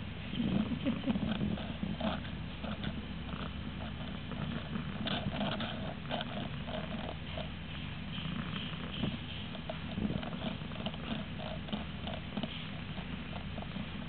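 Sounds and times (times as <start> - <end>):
cat purring: 0.2 - 14.0
small ticks and patters: 0.9 - 14.0.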